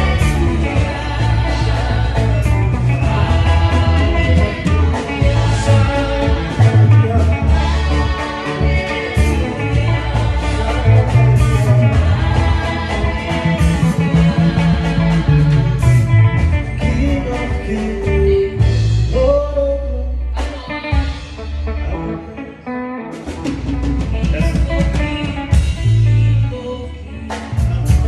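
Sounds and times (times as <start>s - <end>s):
bass guitar: 0.0s - 28.0s
drums: 0.0s - 28.0s
guitar: 0.0s - 28.0s.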